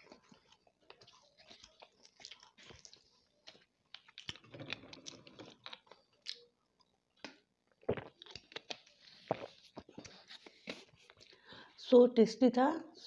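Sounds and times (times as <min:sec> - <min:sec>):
close chewing crunches: 0:00.0 - 0:11.4.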